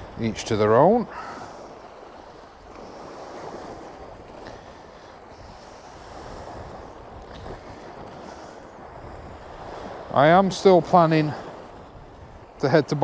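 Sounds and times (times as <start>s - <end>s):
waves: 0.0s - 13.0s
wind buffeting microphone: 0.0s - 13.0s.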